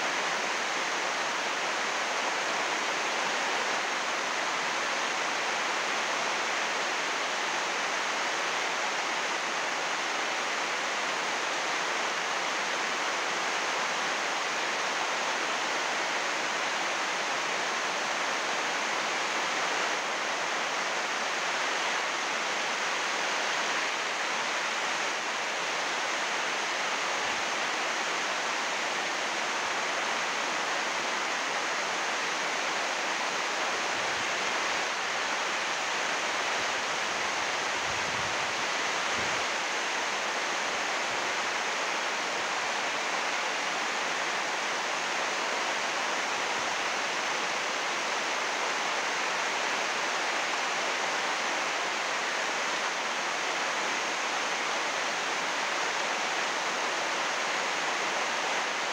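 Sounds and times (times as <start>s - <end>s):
heavy rain on plastic sheeting: 0.0s - 58.9s.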